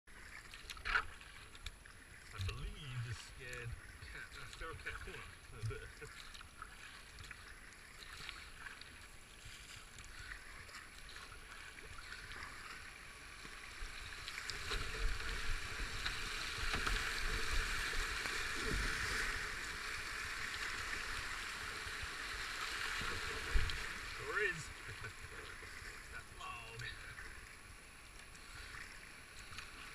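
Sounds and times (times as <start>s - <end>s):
paddle strokes dipping in water: 0.1s - 29.9s
rapids rushing and splashing: 2.1s - 29.9s.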